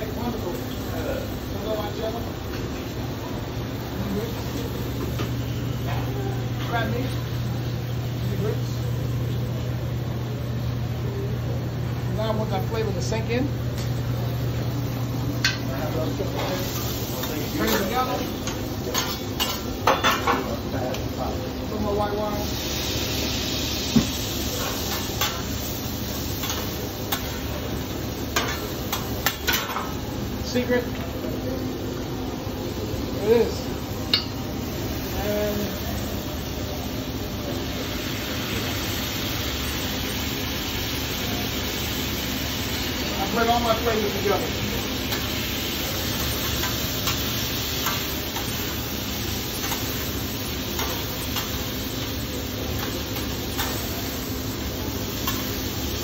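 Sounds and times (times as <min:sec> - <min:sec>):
food sizzling on griddle: 0:00.0 - 0:56.0.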